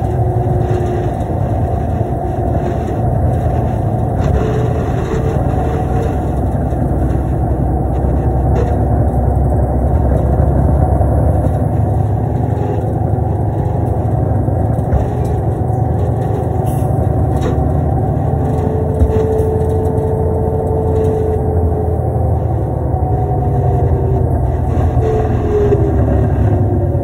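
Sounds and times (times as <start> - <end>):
bus engine and road drone: 0.0 - 27.0
steady whine: 0.0 - 27.0.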